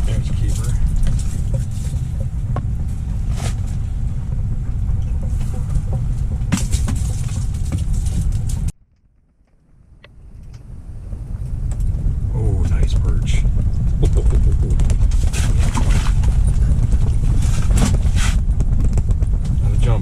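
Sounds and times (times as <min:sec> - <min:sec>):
wind buffeting microphone: 0:00.0 - 0:08.8, 0:09.6 - 0:20.0.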